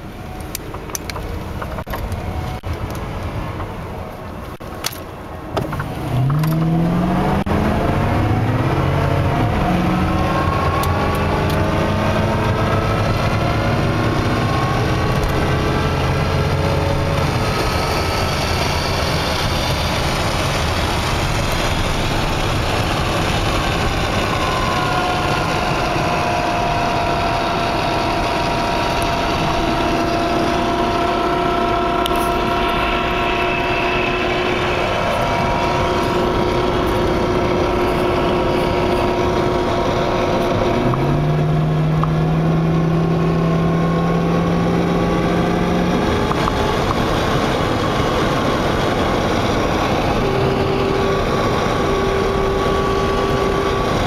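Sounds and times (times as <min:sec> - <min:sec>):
road and wind noise: 0:00.0 - 0:54.0
van engine accelerating: 0:00.0 - 0:54.0.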